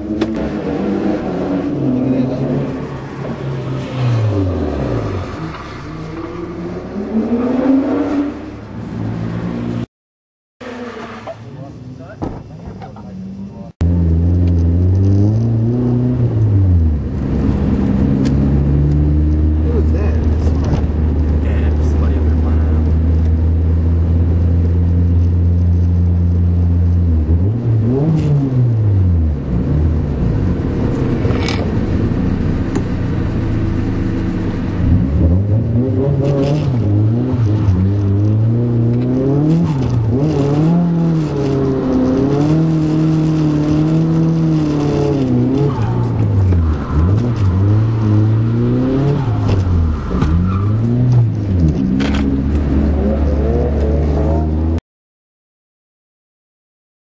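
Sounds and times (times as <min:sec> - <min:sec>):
car engine revving: 0:00.0 - 0:09.9, 0:10.6 - 0:54.8.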